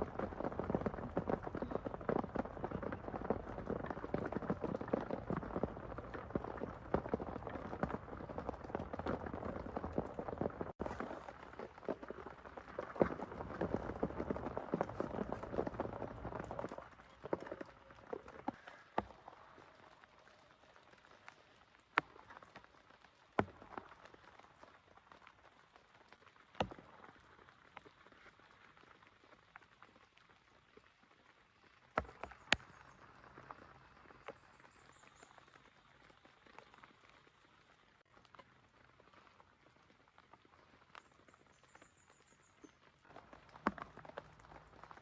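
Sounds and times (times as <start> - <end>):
light rain: 0.0 - 45.0.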